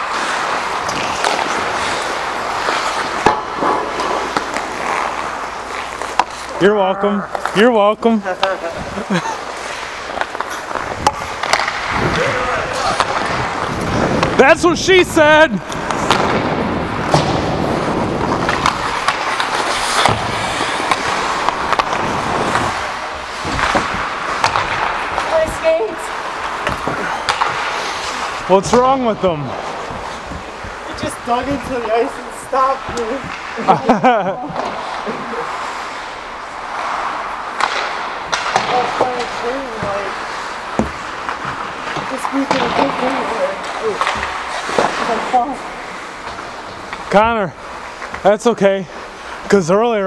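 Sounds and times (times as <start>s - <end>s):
skate blades scraping ice: 0.0s - 49.6s.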